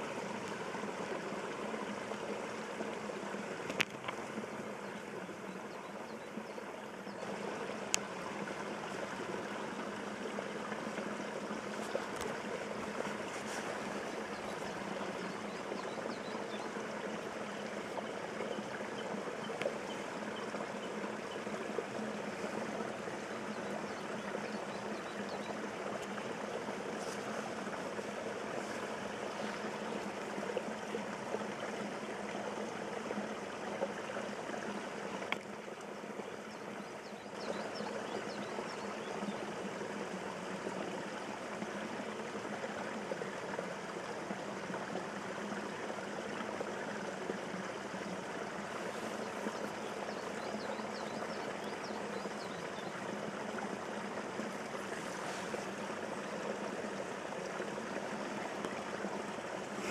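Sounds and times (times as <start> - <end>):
water trickling over dam: 0.0 - 59.9.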